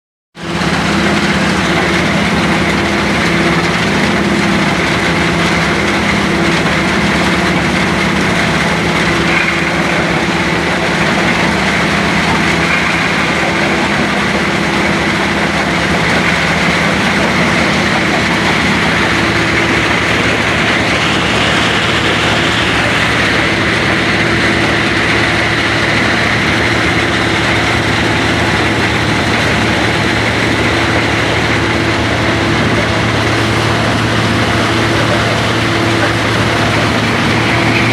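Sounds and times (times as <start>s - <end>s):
engine hum: 0.4s - 37.9s
stone crusher machinery din: 0.4s - 37.9s.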